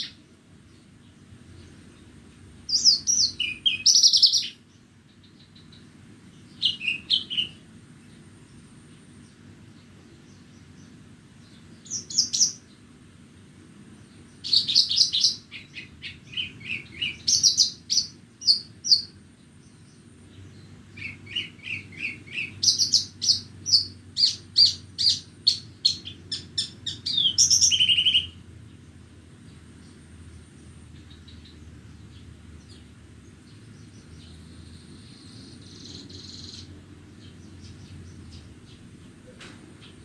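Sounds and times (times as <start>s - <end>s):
bird singing high chirping trills: 0.0s - 13.0s, 13.9s - 40.0s
faint low rumble: 0.0s - 40.0s.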